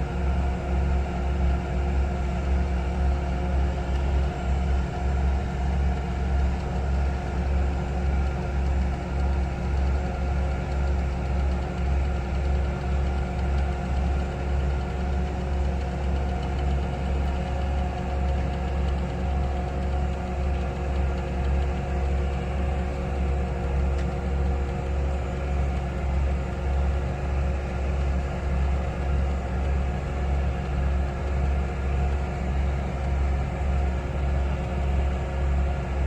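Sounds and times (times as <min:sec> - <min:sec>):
heavy machinery diesel engine rumble: 0:00.0 - 0:36.0.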